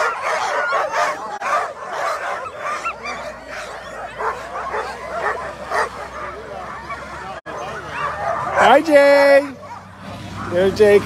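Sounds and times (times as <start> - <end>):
sled dogs barking and crying: 0.0 - 11.0.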